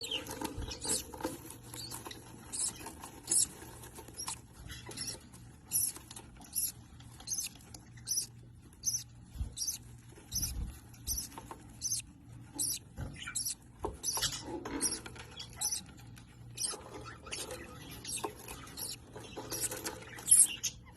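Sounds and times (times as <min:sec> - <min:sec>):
faint low hum: 0:00.0 - 0:20.9
small birds chirping: 0:00.0 - 0:20.9.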